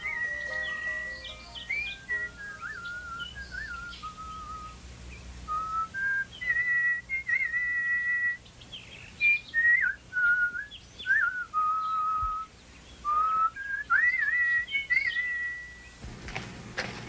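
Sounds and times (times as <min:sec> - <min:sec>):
whistled bird-like song: 0:00.0 - 0:16.0.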